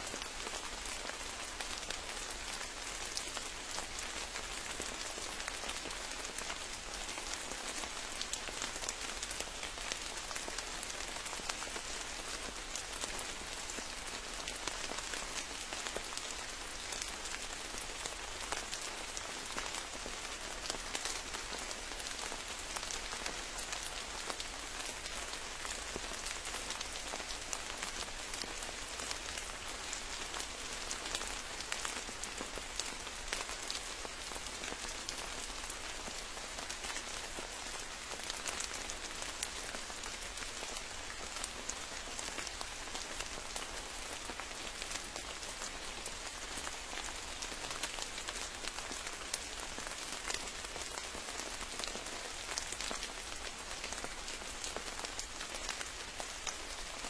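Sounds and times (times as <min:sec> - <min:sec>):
rain falling steadily: 0:00.0 - 0:57.0.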